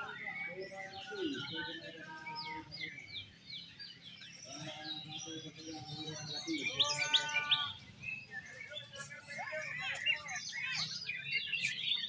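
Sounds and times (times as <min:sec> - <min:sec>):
caged songbirds chorus: 0:00.0 - 0:12.0.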